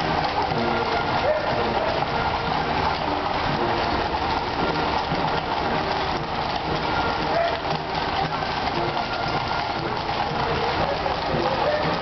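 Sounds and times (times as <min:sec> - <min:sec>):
horse hooves clattering on street: 0:00.0 - 0:12.0.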